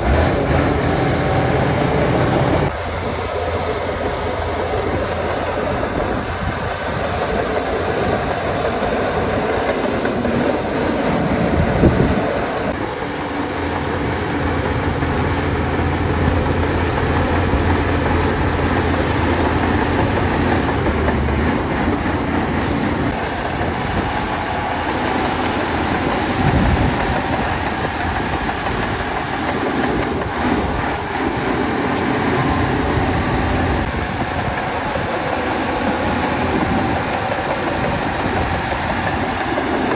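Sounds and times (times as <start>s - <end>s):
bulldozer diesel engine: 0.0s - 39.9s
steel tracks clanking: 0.0s - 39.9s.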